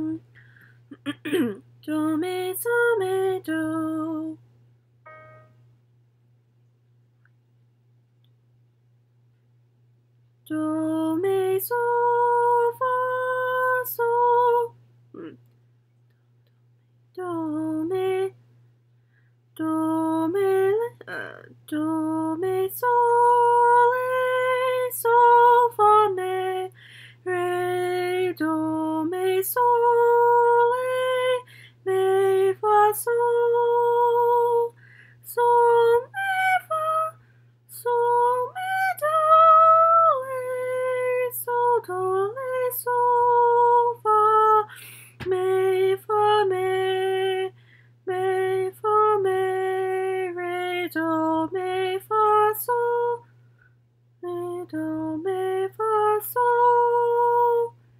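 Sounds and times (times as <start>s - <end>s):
woman singing unaccompanied: 0.0s - 0.3s, 0.9s - 4.4s, 10.4s - 15.4s, 17.1s - 18.4s, 19.6s - 53.3s, 54.2s - 57.8s.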